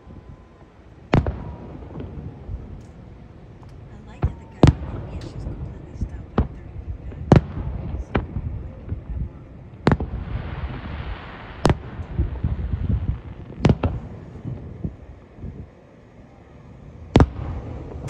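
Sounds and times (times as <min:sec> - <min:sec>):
low rumble: 0:00.0 - 0:15.7.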